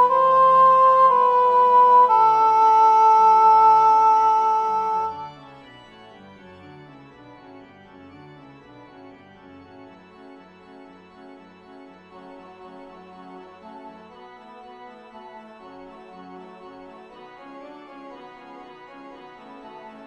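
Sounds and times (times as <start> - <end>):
organ music: 0.0 - 16.8.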